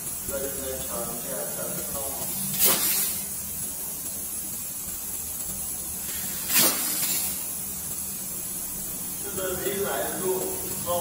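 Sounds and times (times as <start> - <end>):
compressed gas hissing through tube: 0.0 - 11.0.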